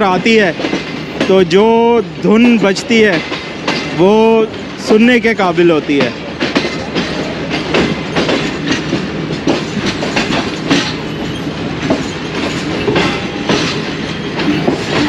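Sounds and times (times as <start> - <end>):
train running rumble: 0.0 - 15.0
train wheels clattering over points: 0.0 - 15.0.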